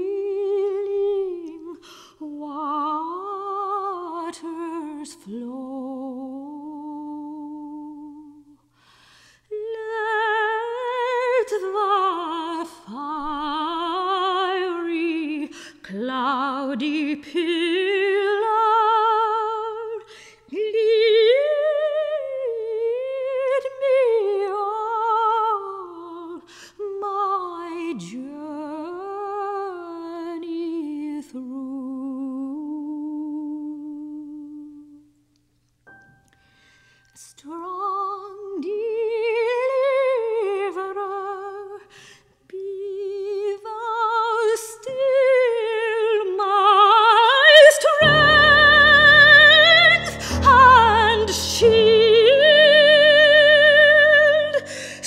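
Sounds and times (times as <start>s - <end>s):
soprano singing with vibrato: 0.0s - 8.7s, 9.4s - 35.2s, 37.2s - 55.0s.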